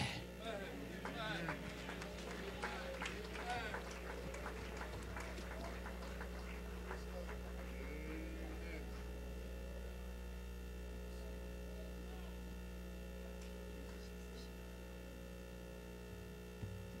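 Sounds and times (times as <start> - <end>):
faint murmured voices: 0.0 - 15.4
electrical mains hum: 0.0 - 17.0.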